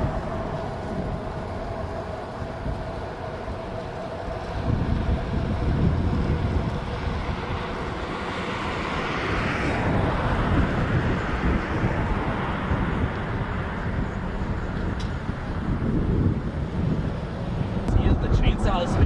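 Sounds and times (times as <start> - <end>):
vehicle engine in motion: 0.0 - 19.0
wind rumble on microphone: 0.0 - 19.0.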